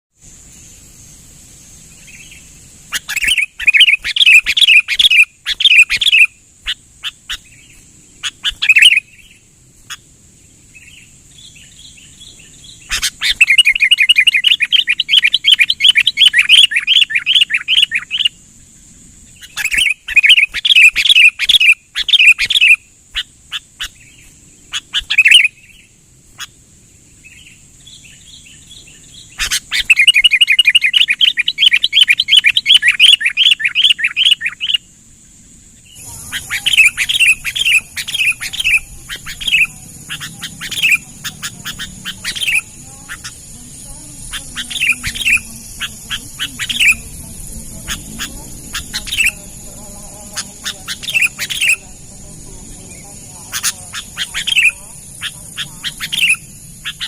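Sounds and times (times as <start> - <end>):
bulbul chirping song: 0.2 - 57.0.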